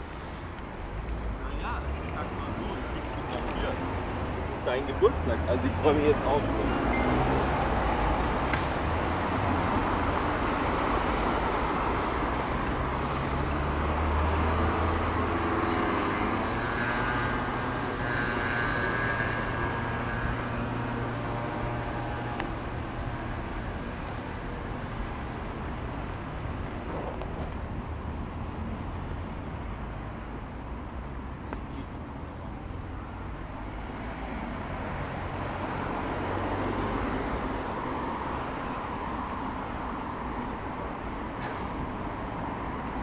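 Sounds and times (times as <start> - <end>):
vehicles passing: 0.0 - 43.0.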